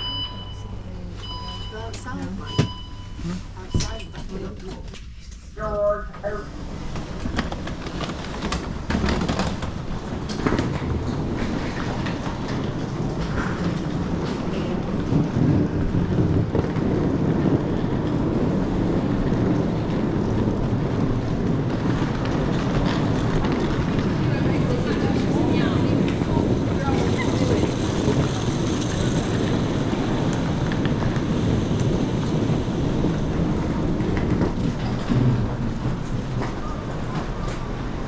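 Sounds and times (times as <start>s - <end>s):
rumbling hum of hall and people: 0.0s - 38.0s.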